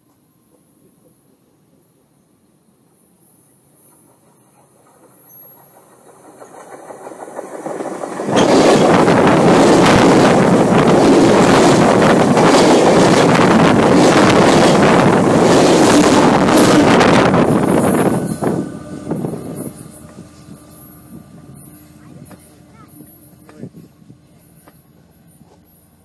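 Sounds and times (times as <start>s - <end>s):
train passing overhead: 0.0s - 26.0s.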